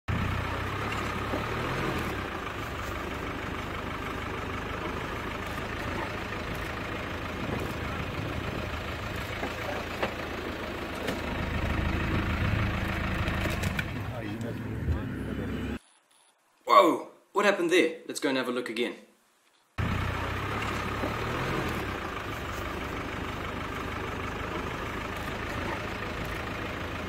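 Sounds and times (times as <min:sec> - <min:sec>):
vehicle engine idling: 0:00.1 - 0:15.8, 0:19.8 - 0:27.0.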